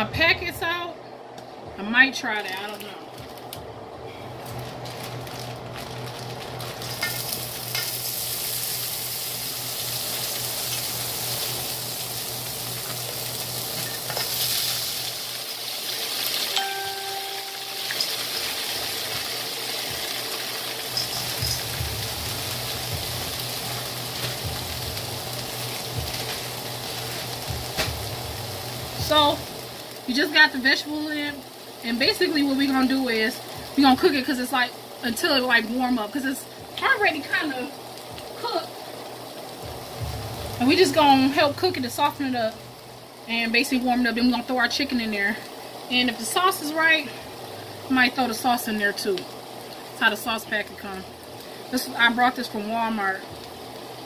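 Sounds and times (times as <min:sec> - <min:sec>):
vegetables sizzling in a wok: 0:03.2 - 0:54.0.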